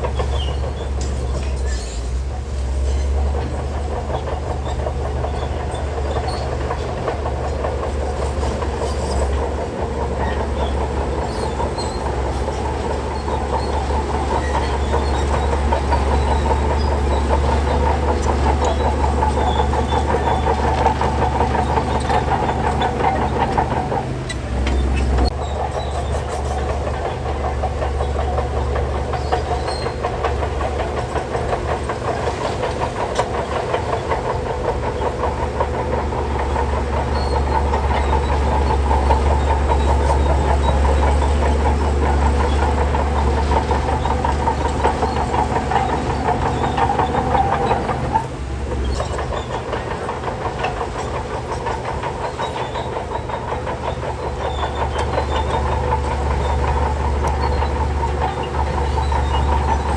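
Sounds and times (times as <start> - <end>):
diesel engine drone: 0.0 - 59.9
metallic track clatter: 0.0 - 59.9.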